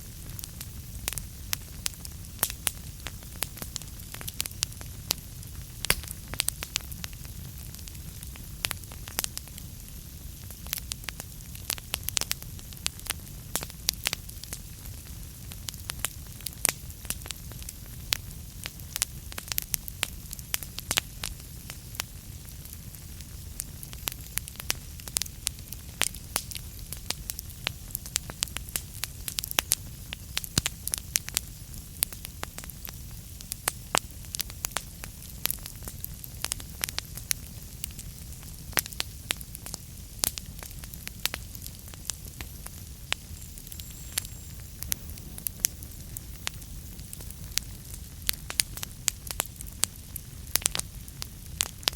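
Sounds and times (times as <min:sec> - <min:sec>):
logs crackling and popping: 0:00.0 - 0:51.9
low rumble of flames: 0:00.0 - 0:51.9.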